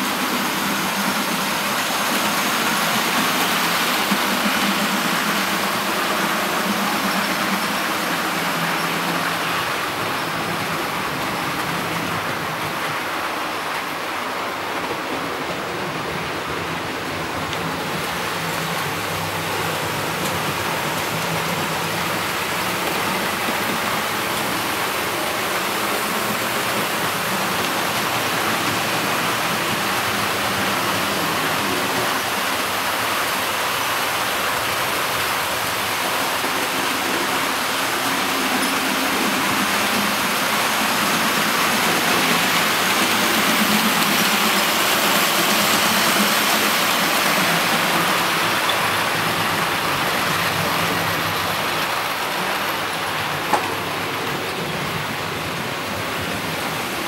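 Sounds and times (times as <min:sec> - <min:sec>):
model train wheels rushing on rail: 0:00.0 - 0:57.0.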